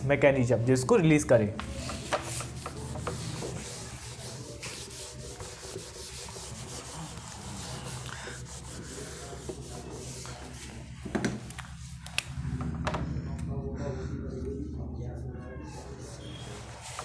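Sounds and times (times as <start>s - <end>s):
low steady hum: 1.5s - 17.0s.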